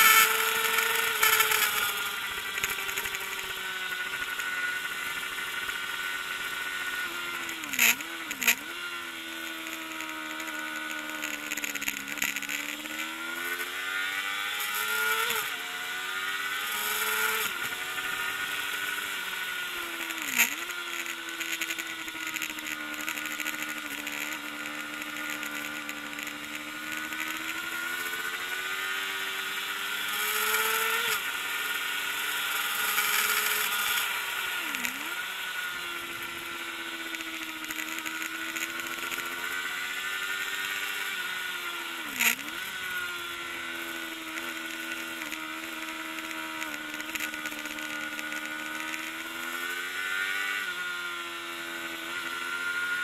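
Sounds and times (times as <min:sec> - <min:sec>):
motorcycle engine revving high: 0:00.0 - 0:53.0.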